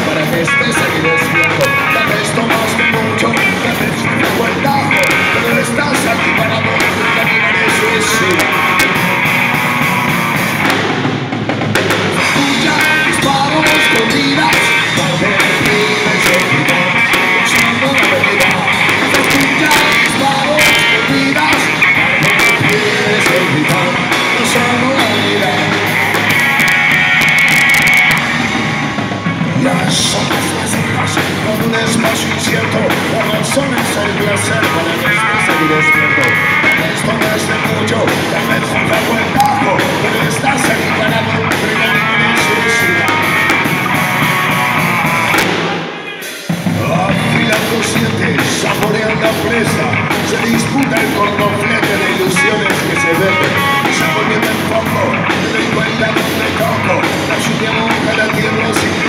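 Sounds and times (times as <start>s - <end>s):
drum kit: 0.0s - 59.0s
electric guitars: 0.0s - 59.0s
live rock band playing: 0.0s - 59.0s.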